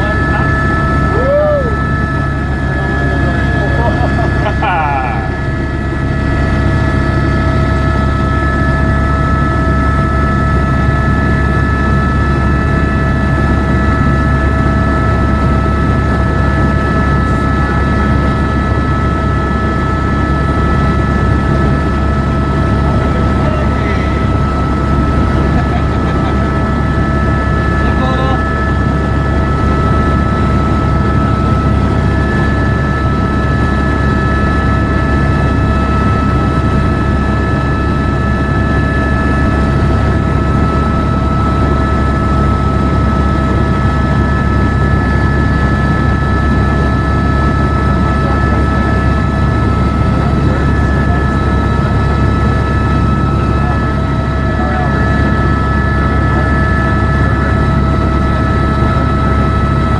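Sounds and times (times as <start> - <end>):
helicopter turbine whine: 0.0 - 59.9
rotor and engine drone: 0.0 - 59.9.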